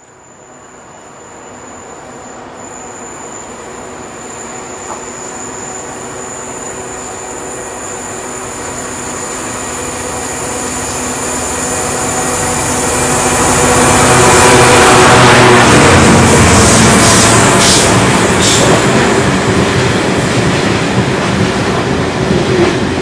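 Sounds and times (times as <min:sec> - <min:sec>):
diesel locomotive engine howling: 0:00.0 - 0:23.0.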